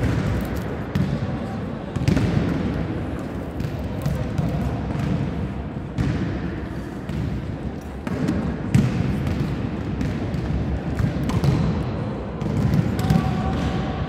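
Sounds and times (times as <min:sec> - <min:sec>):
volleyballs struck and bouncing: 0:00.0 - 0:14.0.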